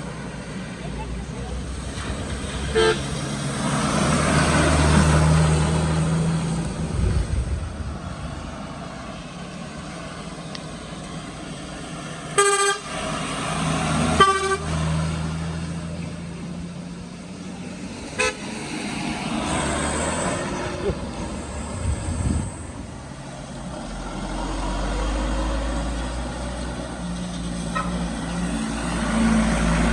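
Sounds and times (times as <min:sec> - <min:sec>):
heavy vehicle engines passing: 0:00.0 - 0:29.9.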